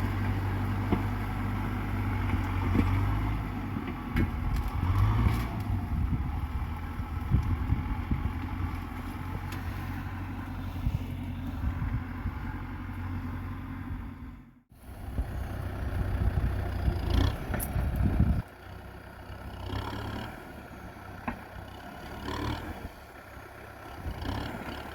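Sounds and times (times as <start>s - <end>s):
tractor diesel engine rumbling: 0.0s - 24.9s.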